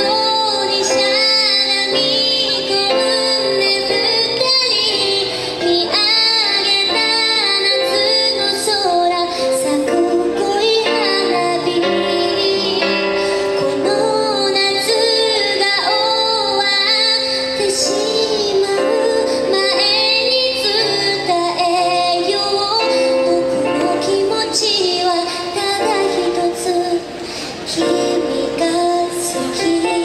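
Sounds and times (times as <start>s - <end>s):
woman singing a slow ballad: 0.0s - 30.0s.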